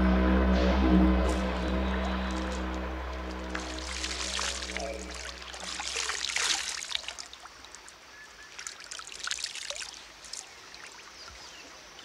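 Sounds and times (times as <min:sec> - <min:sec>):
water splashing from hands: 0:01.3 - 0:11.2
stream trickling: 0:01.3 - 0:12.0.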